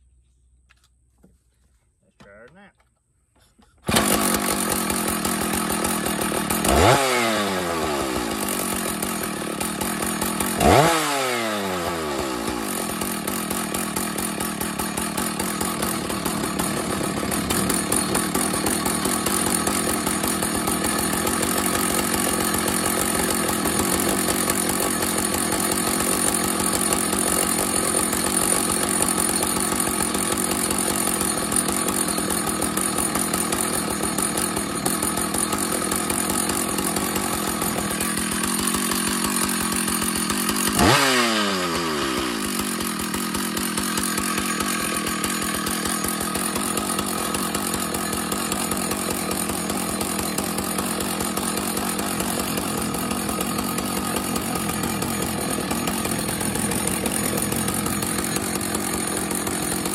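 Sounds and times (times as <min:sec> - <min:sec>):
chainsaw revving and running: 0:03.8 - 0:59.9.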